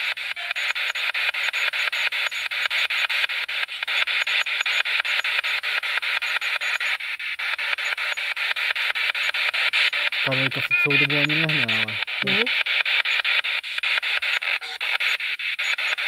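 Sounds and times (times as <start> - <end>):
choppy radio static: 0.0 - 16.0.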